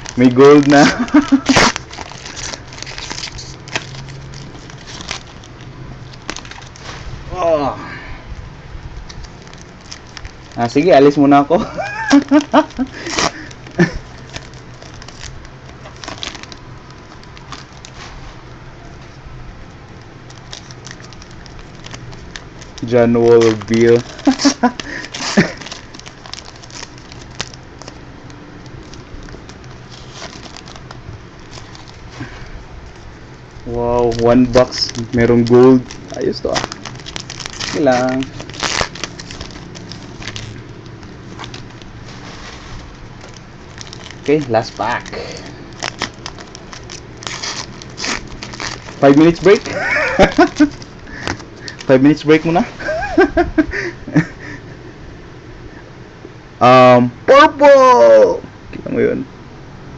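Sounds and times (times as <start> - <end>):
card pack wrappers crinkling: 0.0 - 7.0, 9.0 - 54.3.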